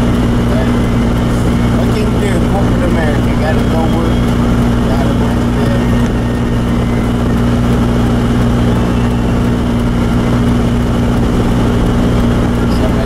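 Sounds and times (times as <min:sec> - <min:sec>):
car engine and tyre noise: 0:00.0 - 0:13.0
constant low hum: 0:00.0 - 0:13.0
heater blower running: 0:00.0 - 0:13.0.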